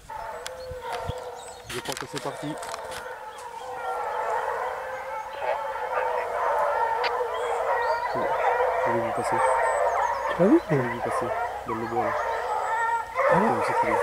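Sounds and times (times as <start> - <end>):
hounds baying in chorus: 0.0 - 14.0.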